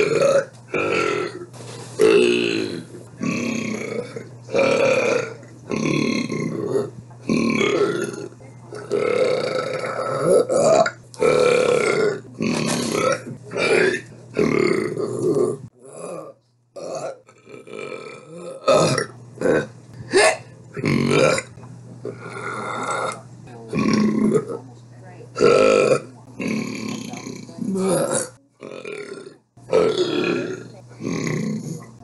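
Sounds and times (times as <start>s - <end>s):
woman burping: 0.0s - 15.2s, 15.8s - 24.6s, 25.4s - 32.0s.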